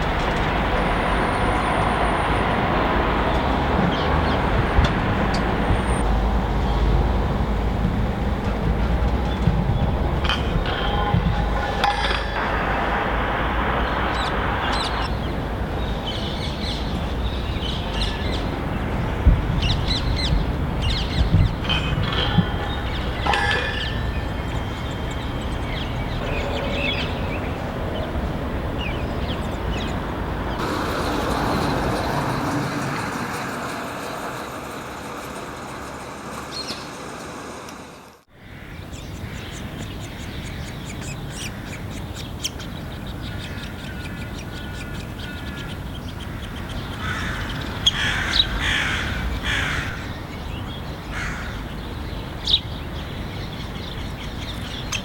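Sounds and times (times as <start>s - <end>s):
steady background noise: 0.0s - 55.0s
harsh bird calls: 8.7s - 55.0s.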